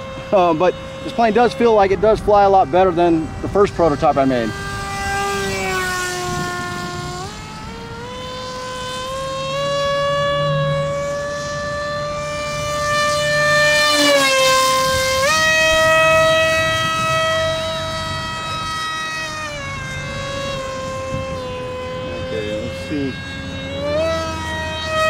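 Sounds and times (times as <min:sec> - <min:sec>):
electric motor and propeller whine: 0:00.0 - 0:25.0.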